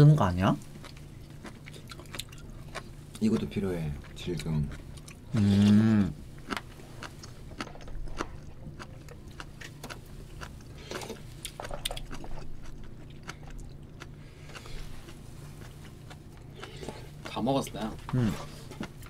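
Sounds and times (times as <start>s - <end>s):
chewing: 0.6s - 19.0s.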